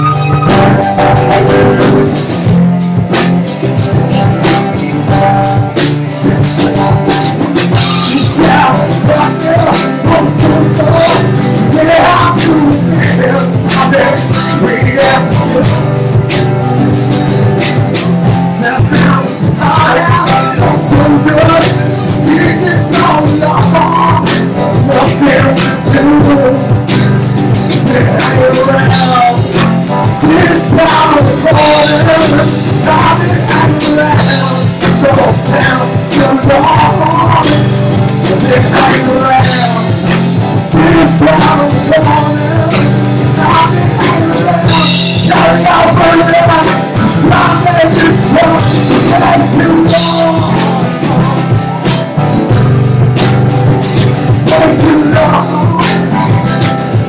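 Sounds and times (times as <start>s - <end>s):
man singing: 0.0s - 2.6s, 3.5s - 16.3s, 16.9s - 52.7s, 53.6s - 57.0s
drum kit: 0.0s - 57.0s
electric guitar: 0.0s - 57.0s
strummed guitar: 0.0s - 57.0s.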